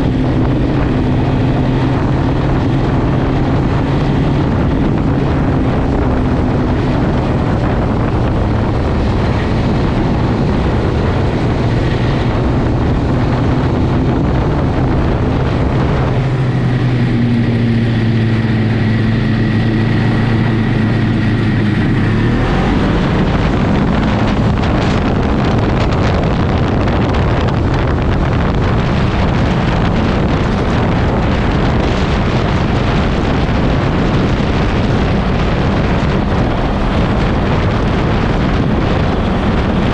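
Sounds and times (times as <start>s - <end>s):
snowmobile engine running: 0.0s - 39.9s
snowmobile track noise: 0.0s - 39.9s
wind: 0.0s - 39.9s.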